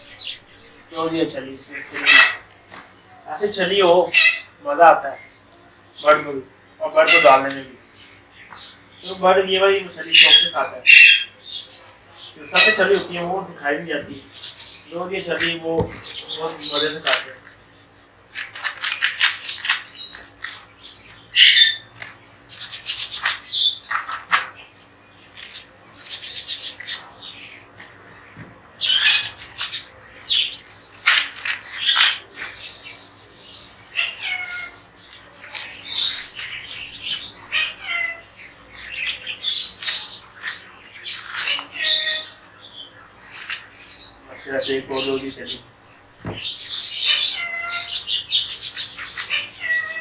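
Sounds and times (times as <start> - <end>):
parrots squawking and screeching: 0.0 - 28.2, 28.8 - 50.0.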